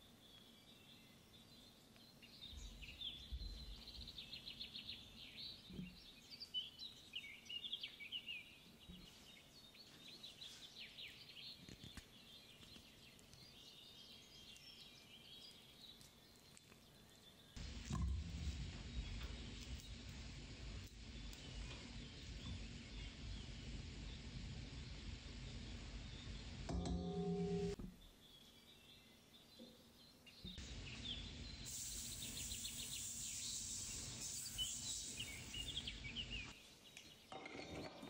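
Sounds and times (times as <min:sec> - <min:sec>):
faint birdsong: 0:00.0 - 0:38.0.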